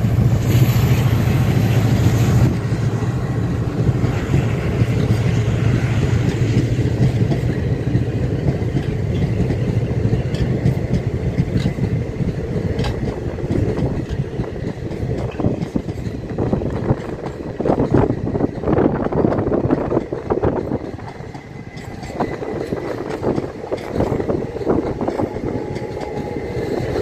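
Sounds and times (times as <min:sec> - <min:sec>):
train coaches rolling past: 0:00.0 - 0:27.0
wheels clacking over rail joints: 0:02.5 - 0:27.0.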